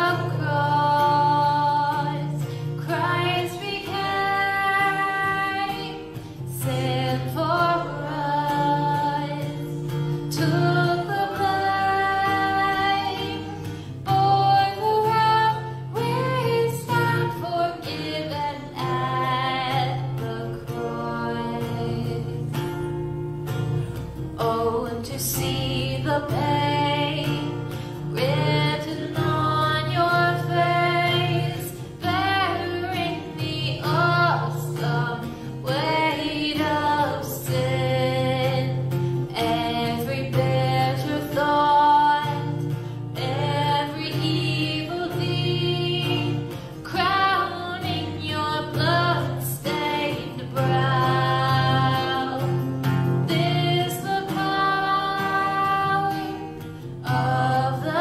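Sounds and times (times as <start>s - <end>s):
acoustic guitar: 0.0s - 58.0s
woman singing: 0.0s - 58.0s.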